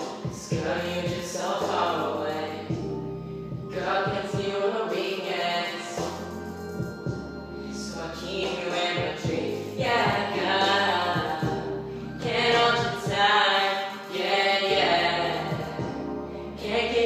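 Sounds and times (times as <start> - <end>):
backing music: 0.0 - 17.0.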